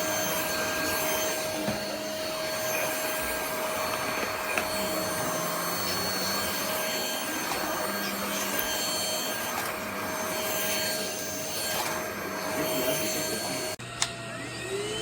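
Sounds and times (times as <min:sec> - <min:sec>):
vacuum motor whine: 0:00.0 - 0:15.0.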